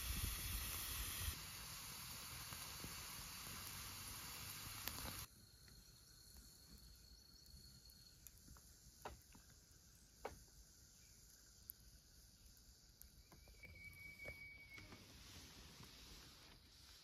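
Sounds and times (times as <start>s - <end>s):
high insect trill: 0.0s - 15.2s
steady hiss: 0.0s - 17.0s.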